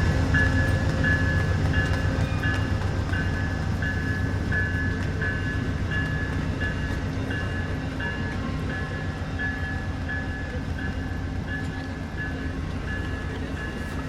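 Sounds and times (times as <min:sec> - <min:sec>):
train diesel rumble: 0:00.0 - 0:14.0.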